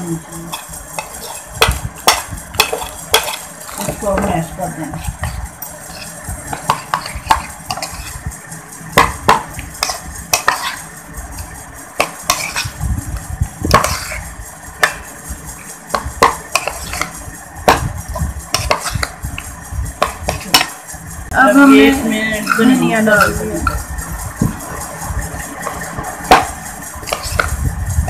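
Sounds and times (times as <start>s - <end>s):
spoon clinking and scraping bowl: 0.1s - 8.2s, 8.9s - 12.8s, 13.7s - 17.8s, 18.4s - 20.9s, 21.6s - 23.9s, 25.2s - 27.6s.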